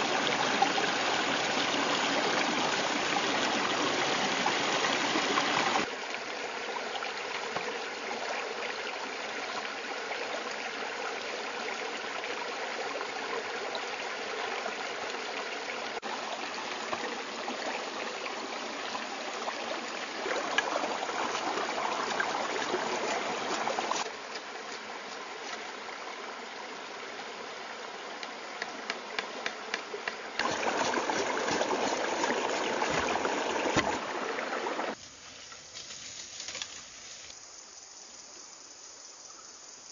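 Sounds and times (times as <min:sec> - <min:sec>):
stream water running: 0:00.0 - 0:38.7.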